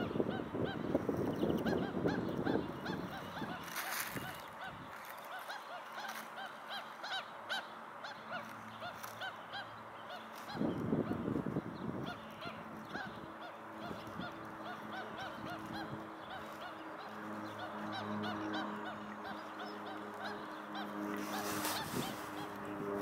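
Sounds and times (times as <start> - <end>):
birds yapping calls: 0.0 - 23.0
steady low hum: 0.0 - 23.0.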